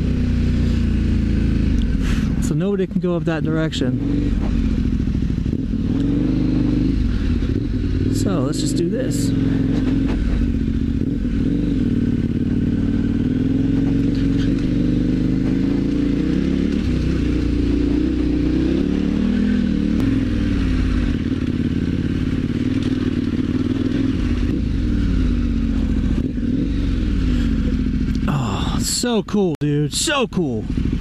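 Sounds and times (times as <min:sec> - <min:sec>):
motorcycle engine revving: 0:00.0 - 0:29.2, 0:29.9 - 0:31.0.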